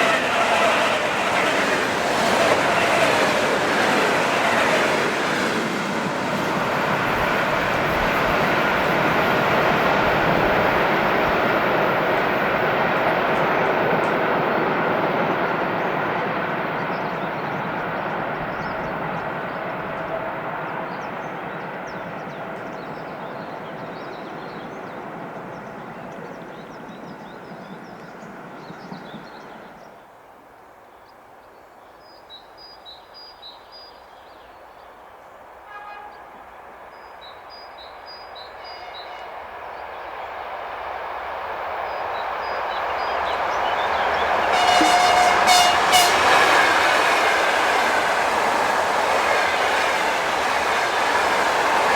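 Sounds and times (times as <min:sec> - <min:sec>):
train rumbling past: 0:00.0 - 0:30.1, 0:35.4 - 0:51.9.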